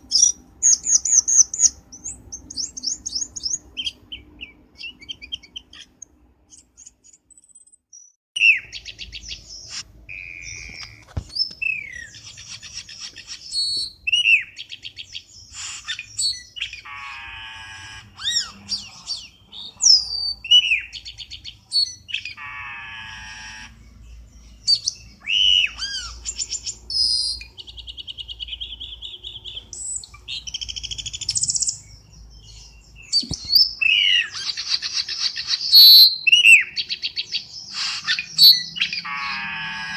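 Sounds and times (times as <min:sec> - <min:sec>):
bird song whistling and chattering: 0:00.0 - 0:39.9.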